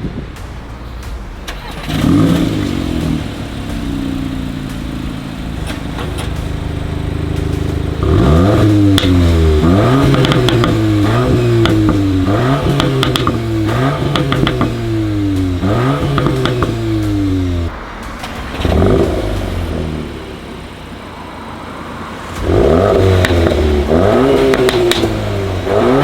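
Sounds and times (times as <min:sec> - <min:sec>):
car engine revving: 0:00.0 - 0:26.0
exhaust crackles: 0:00.0 - 0:26.0.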